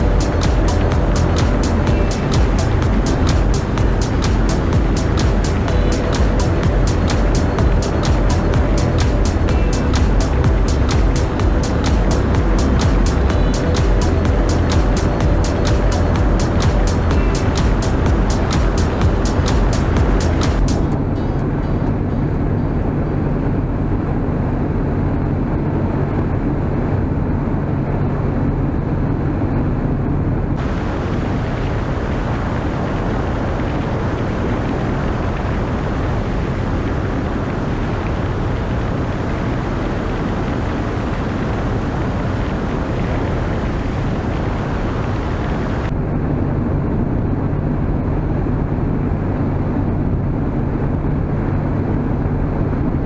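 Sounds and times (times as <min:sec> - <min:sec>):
aircraft engine and propeller: 0:00.0 - 0:53.0
rushing wind: 0:00.0 - 0:53.0.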